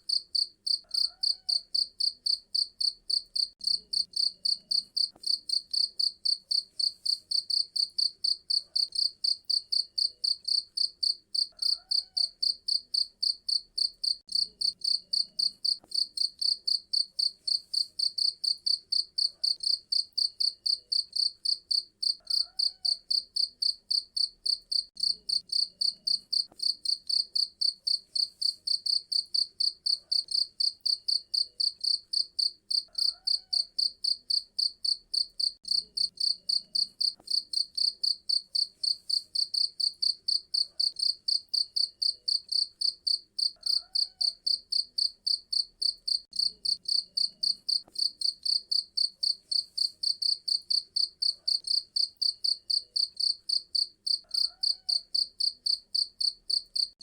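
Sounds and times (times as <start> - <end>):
cricket chirping: 0.1 - 56.9.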